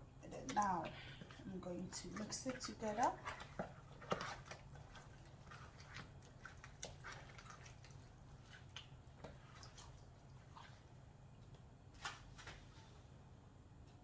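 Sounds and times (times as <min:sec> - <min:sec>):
low room hum: 0:00.0 - 0:14.0
wet squelching of meat mixing: 0:00.2 - 0:13.2.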